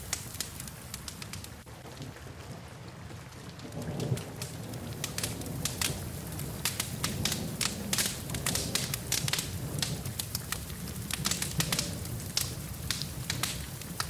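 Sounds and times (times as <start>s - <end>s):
rain falling: 0.0s - 14.0s
wood fire crackling: 0.0s - 14.0s.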